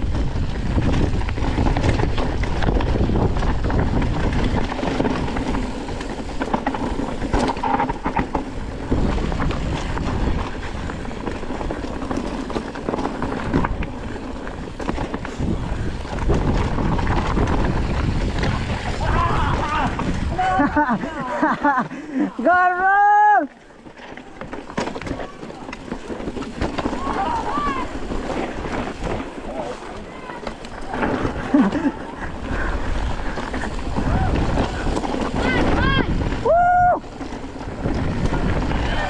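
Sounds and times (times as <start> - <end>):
wind buffeting microphone: 0.0 - 21.1, 26.2 - 39.0
mountain bike clattering: 0.0 - 39.0.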